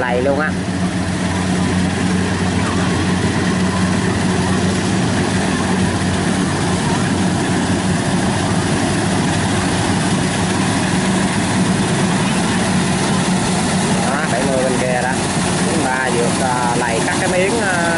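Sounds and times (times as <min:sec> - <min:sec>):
combine harvester engine droning: 0:00.0 - 0:17.9.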